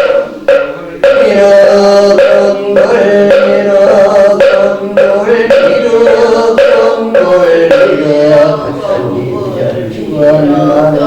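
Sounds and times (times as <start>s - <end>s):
liturgical chanting: 0.0s - 11.0s
wooden block struck in steady beat: 0.0s - 11.0s.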